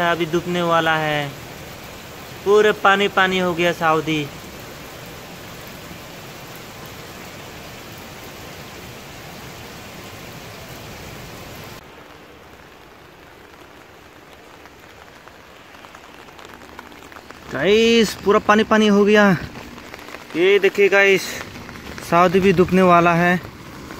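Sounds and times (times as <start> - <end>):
heavy rain on pavement: 0.0 - 23.9.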